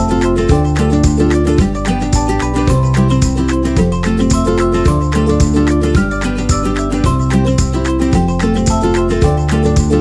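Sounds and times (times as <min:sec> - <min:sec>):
upbeat guitar music with beat: 0:00.0 - 0:10.0.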